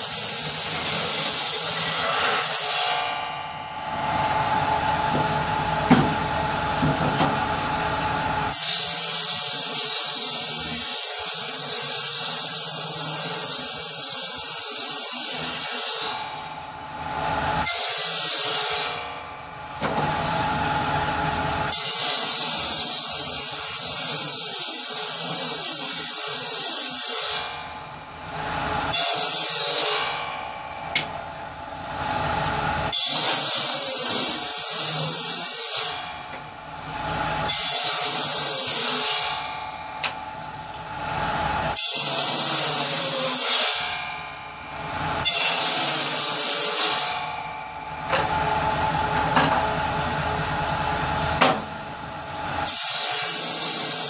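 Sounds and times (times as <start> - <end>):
saw motor running: 0.0 - 47.4
power saw cutting wood: 0.0 - 51.8, 52.4 - 54.0.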